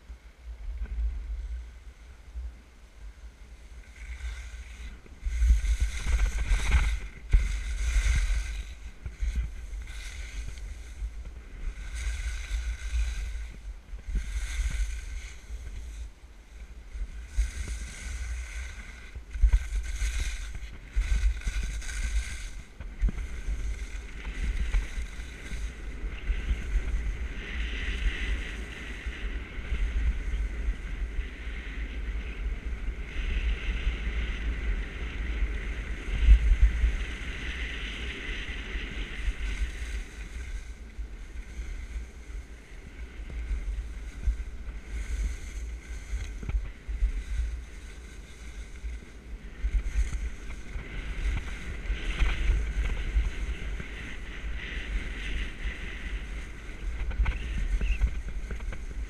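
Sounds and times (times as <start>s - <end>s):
wind buffeting microphone: 0.0s - 59.0s
skis scraping on snow: 0.8s - 59.0s.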